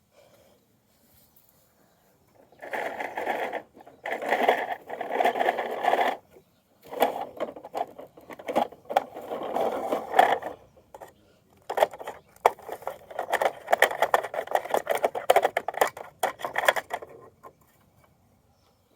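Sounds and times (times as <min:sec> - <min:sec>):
plastic clicks and rattles: 0:02.6 - 0:18.2.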